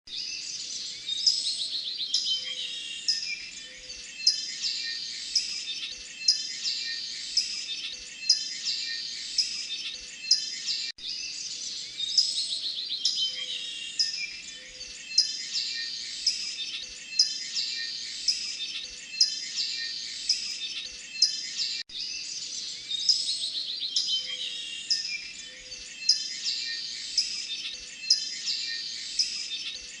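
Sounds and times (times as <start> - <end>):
canary singing trills: 0.3 - 30.0.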